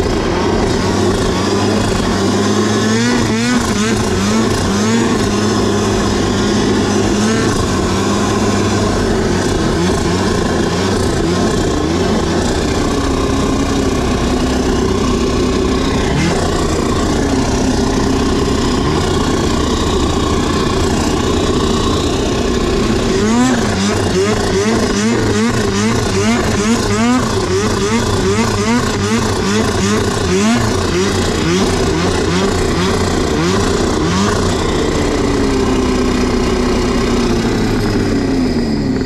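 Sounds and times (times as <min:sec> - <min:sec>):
snowmobile engine running: 0:00.0 - 0:39.0.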